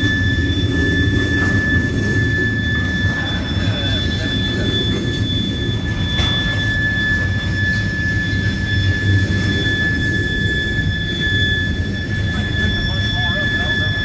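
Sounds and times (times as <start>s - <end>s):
high-pitched wheel squeal: 0.0s - 14.0s.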